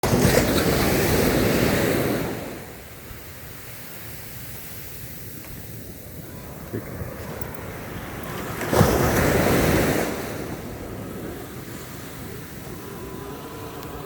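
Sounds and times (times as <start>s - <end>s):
surf washing in: 0.0s - 14.0s
wind buffeting microphone: 0.0s - 14.0s.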